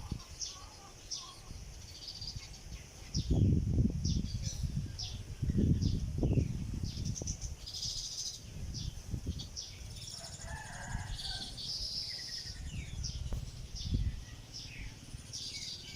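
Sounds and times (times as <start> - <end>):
birds chirping and chattering: 0.0 - 15.9
buzzy bird trill: 0.0 - 15.9.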